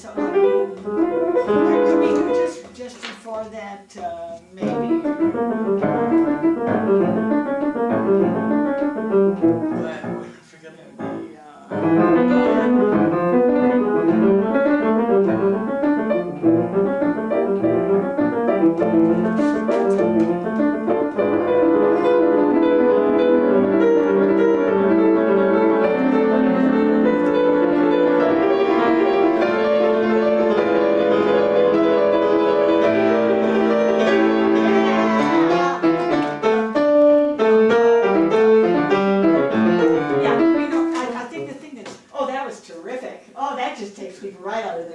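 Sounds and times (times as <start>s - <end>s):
solo classical piano: 0.0s - 2.7s, 4.6s - 10.3s, 10.9s - 41.2s.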